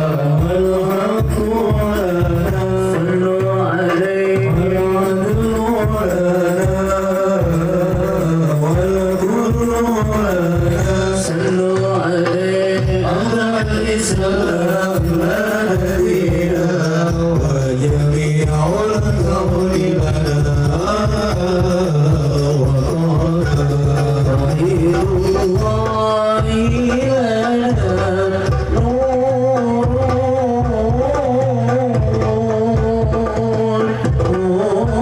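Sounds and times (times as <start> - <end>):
rhythmic drum beat: 0.0 - 35.0
song with singing voice: 0.0 - 35.0.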